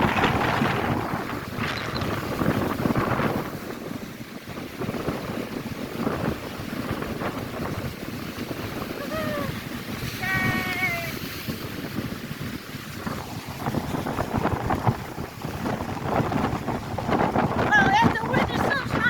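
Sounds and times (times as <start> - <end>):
storm surf washing onto shore: 0.0 - 19.0
wind buffeting microphone: 0.0 - 19.0.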